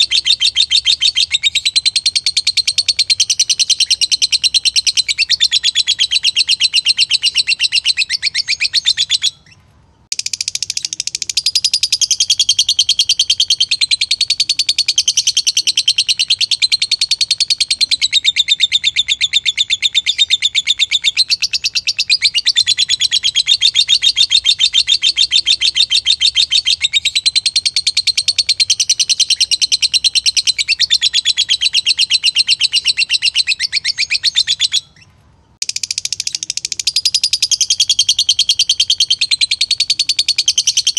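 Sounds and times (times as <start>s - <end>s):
lovebird chattering trill: 0.0s - 40.9s.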